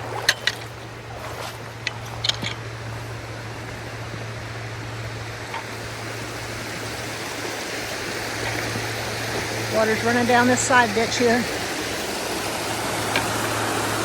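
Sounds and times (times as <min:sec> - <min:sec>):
water rushing from culvert: 0:00.0 - 0:14.0.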